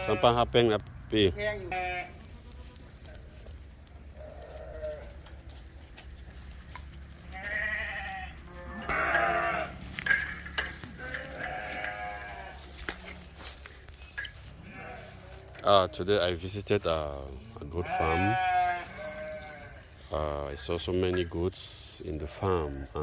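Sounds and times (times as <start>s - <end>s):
goats and sheep bleating: 0.0s - 0.6s, 1.4s - 23.0s.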